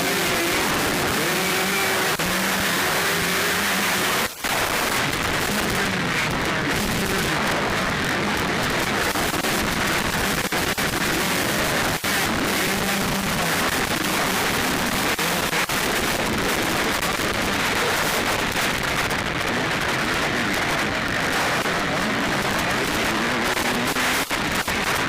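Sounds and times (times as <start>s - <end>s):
distorted crackling: 0.0s - 25.0s
motocross bikes racing: 0.0s - 25.0s.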